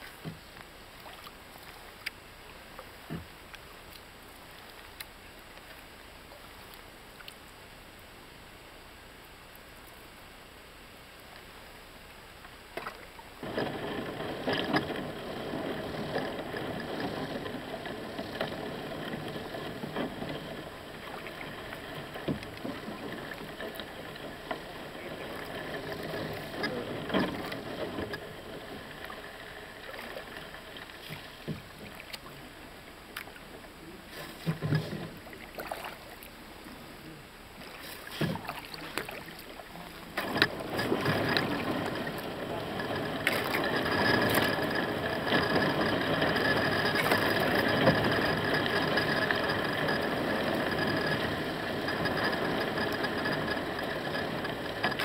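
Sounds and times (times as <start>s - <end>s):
paddle splashing through water: 0.0s - 7.4s, 12.7s - 55.0s.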